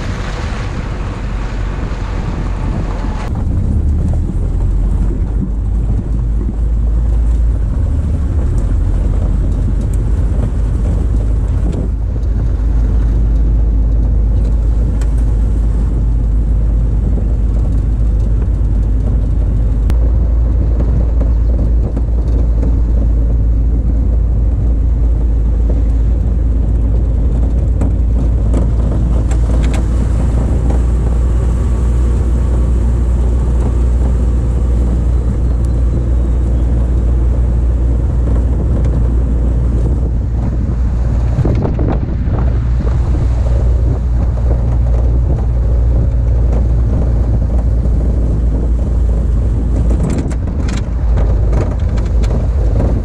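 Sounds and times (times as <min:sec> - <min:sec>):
vehicle engine and tyre noise: 0:00.0 - 0:53.0.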